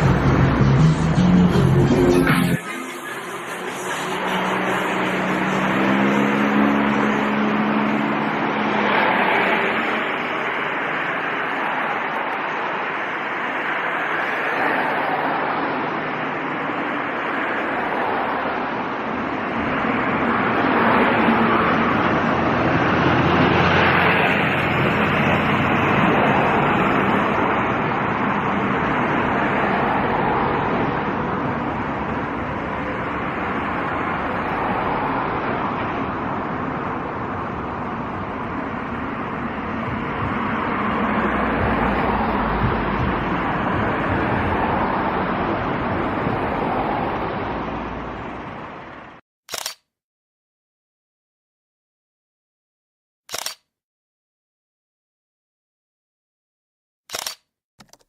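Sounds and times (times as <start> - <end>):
distant jet engines roaring: 0.0 - 49.7.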